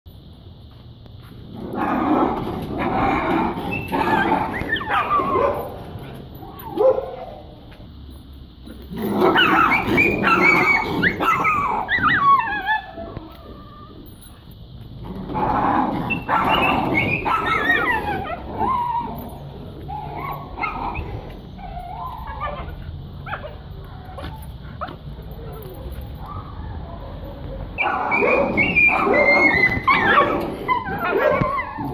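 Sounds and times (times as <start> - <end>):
dogs yelping and whining: 1.6 - 7.7, 8.7 - 31.9.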